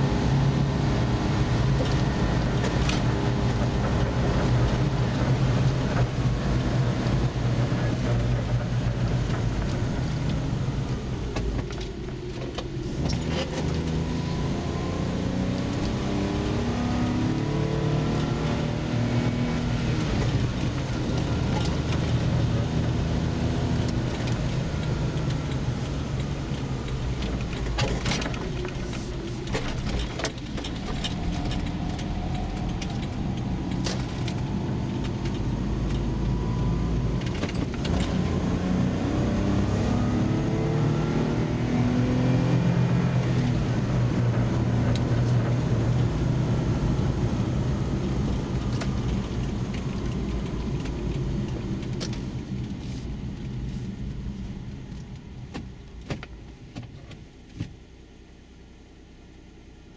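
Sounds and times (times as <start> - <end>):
car engine from inside cabin: 0.0 - 59.9.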